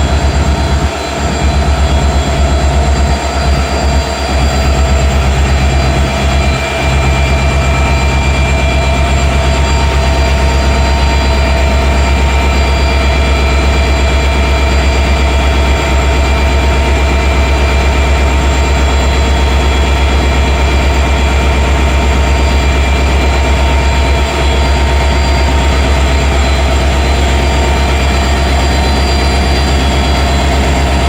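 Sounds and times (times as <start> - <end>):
diesel locomotive engine idling: 0.0 - 31.0.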